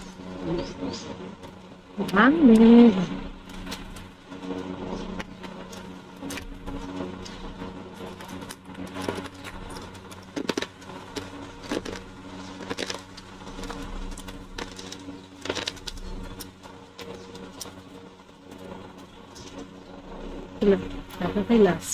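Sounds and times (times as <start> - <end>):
low hum: 0.0 - 21.9.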